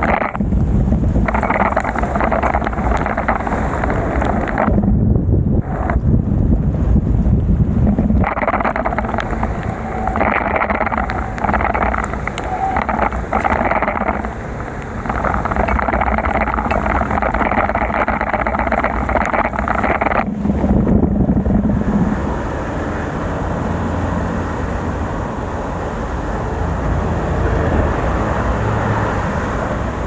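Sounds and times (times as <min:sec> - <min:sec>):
wind buffeting the microphone: 0:00.0 - 0:30.0.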